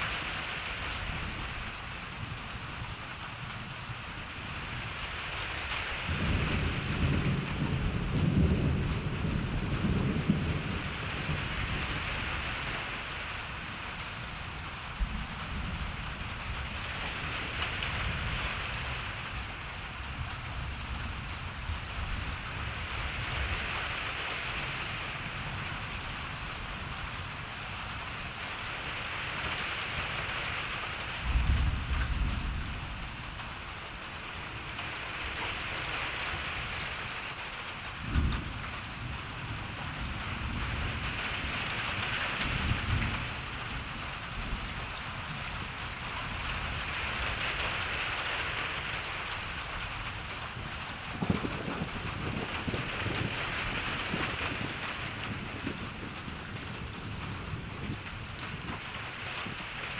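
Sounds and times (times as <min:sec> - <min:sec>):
steady rain falling: 0:00.0 - 0:59.9
thunder rumbling: 0:00.0 - 0:59.9.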